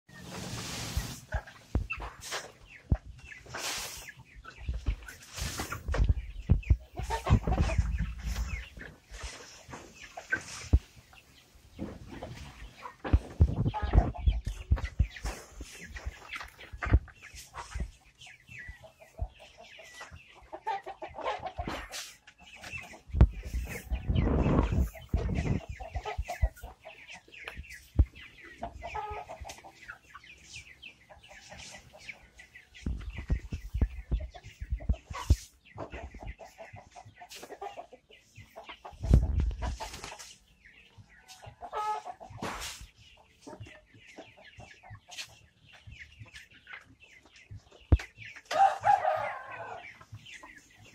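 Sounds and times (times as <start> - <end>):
chickens clucking: 0.1 - 50.9.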